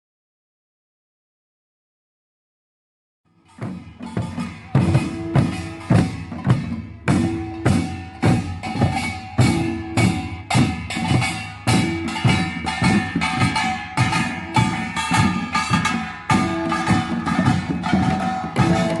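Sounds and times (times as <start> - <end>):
percussion ensemble drums and gongs: 3.3 - 19.0.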